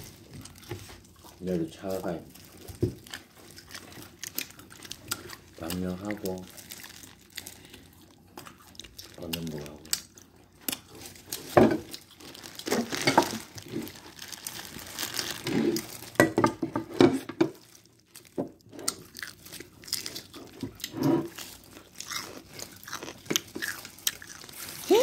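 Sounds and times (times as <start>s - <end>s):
crunching bites and chewing: 0.0s - 16.2s, 17.5s - 24.9s
plastic gloves crinkling: 0.0s - 25.0s.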